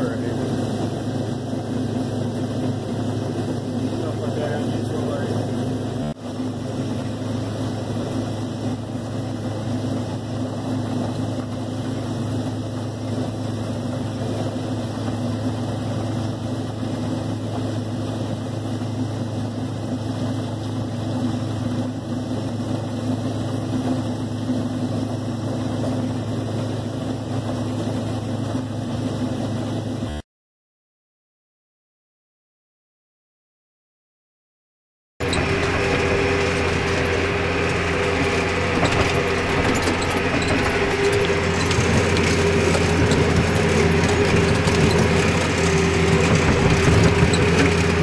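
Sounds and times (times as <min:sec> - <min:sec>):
combine harvester running: 0:00.0 - 0:30.2, 0:35.2 - 0:48.0.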